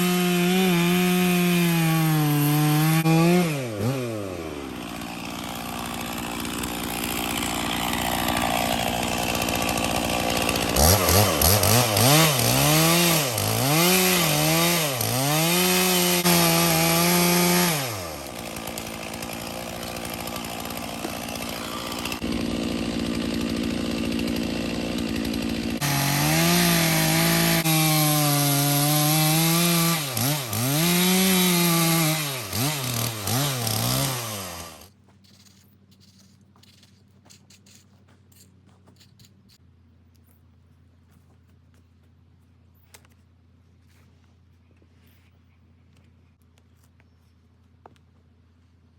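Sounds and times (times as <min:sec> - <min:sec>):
chainsaw cutting log: 0:00.0 - 0:39.6.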